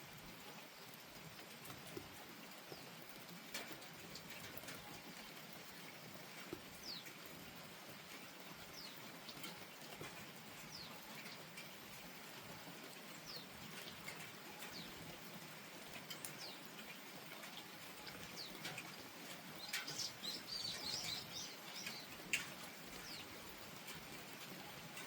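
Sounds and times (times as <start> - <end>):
gentle rain falling: 0.0 - 25.0.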